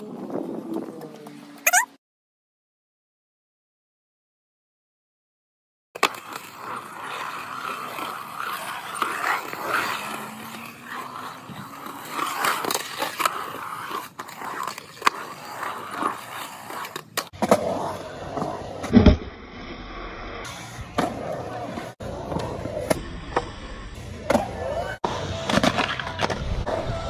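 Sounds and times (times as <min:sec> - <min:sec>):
skateboard wheels rolling on concrete: 0:00.0 - 0:02.0, 0:06.0 - 0:27.0.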